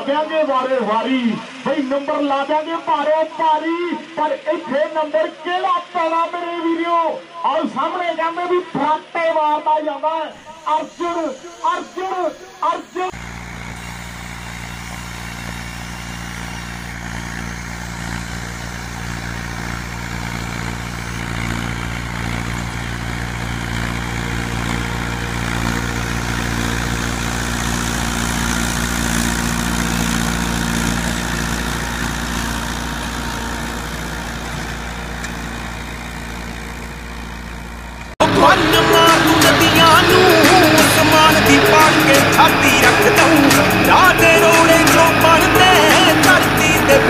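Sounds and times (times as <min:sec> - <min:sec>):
model tractor engine drone: 0:00.0 - 0:47.0.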